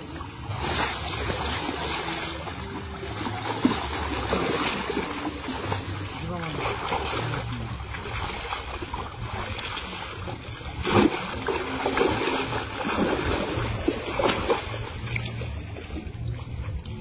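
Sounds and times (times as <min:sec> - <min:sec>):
water splashing and churning: 0:00.0 - 0:17.0
fish thrashing in a net: 0:00.5 - 0:15.3.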